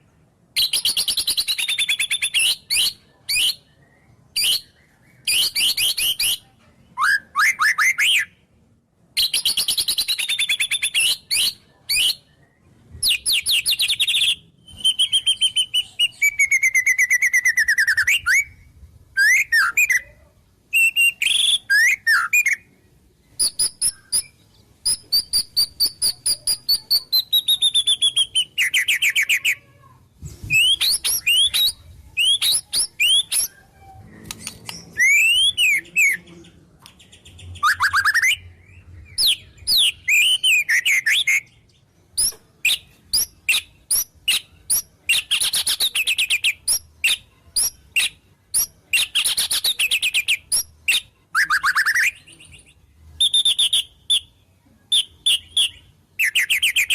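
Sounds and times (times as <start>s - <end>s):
songbird singing varied song: 0.0s - 8.4s, 9.2s - 29.6s, 30.4s - 56.9s.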